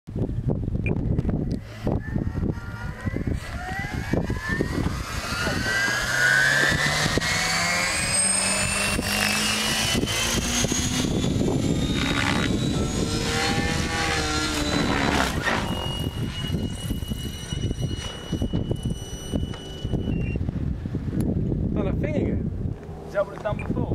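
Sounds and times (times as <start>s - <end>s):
rc helicopter motor and rotor whine: 0.3s - 20.5s.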